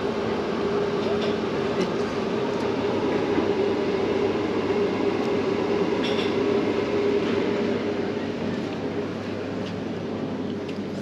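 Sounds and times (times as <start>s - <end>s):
tram electric hum: 0.0s - 11.0s
wheels rumbling on rails: 0.0s - 11.0s.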